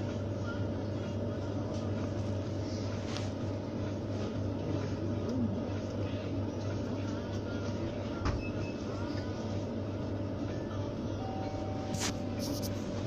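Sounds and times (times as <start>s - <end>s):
low mechanical hum: 0.0s - 13.0s
faint murmur of voices: 0.1s - 12.7s.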